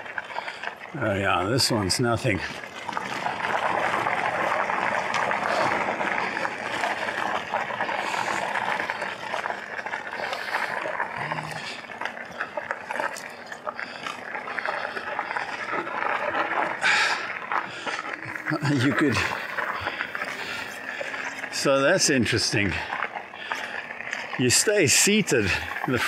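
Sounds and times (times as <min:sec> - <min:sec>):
bike tyres crunching on gravel: 0:00.0 - 0:26.0.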